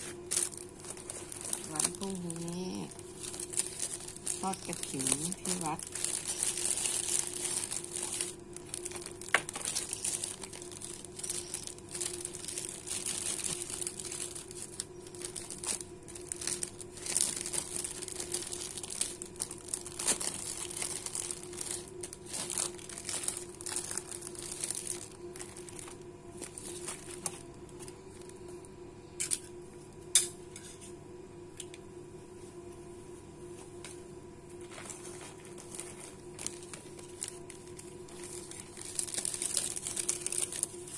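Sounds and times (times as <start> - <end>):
plastic bags crinkling: 0.0 - 28.4, 34.5 - 40.9.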